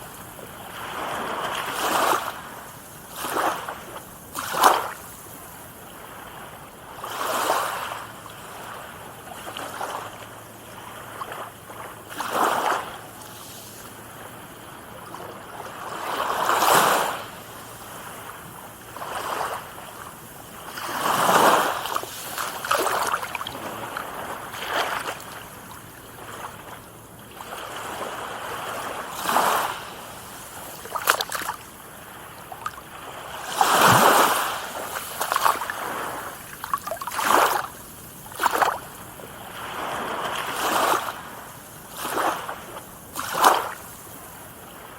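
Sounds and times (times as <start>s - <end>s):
small waves breaking on shore: 0.0s - 44.9s.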